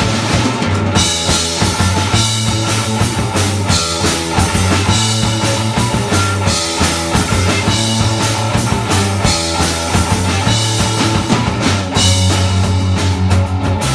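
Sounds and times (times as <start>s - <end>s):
distorted electric guitar: 0.0s - 13.9s
drum kit: 0.0s - 13.9s
electric bass: 0.0s - 13.9s.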